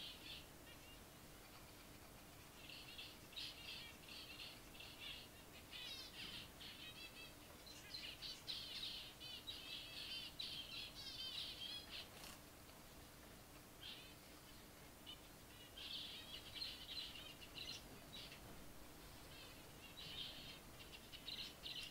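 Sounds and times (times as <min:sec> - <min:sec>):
finches chirping: 0:00.0 - 0:12.4, 0:13.8 - 0:21.9.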